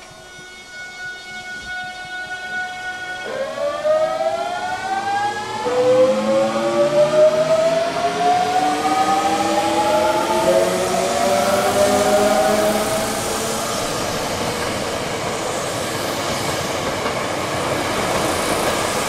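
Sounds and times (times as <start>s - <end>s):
electric train inverter whining: 0.0s - 19.0s.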